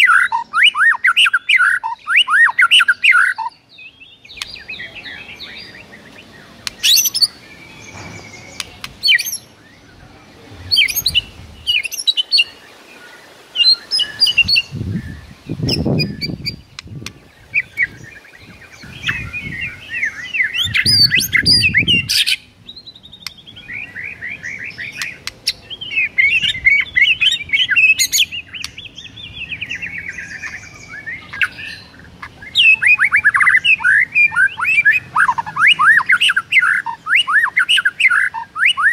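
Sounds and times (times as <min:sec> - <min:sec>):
bird singing whistles and trills: 0:00.0 - 0:10.1, 0:10.7 - 0:12.7, 0:13.6 - 0:38.9.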